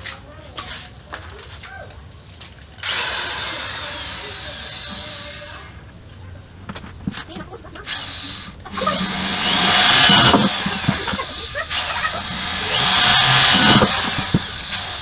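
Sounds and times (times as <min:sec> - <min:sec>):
power tool whine: 0:02.8 - 0:15.0.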